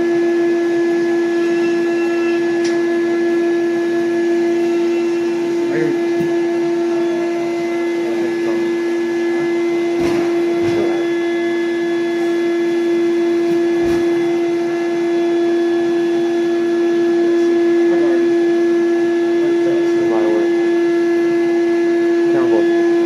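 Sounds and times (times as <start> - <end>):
high-pitched machine hum: 0.0 - 23.0.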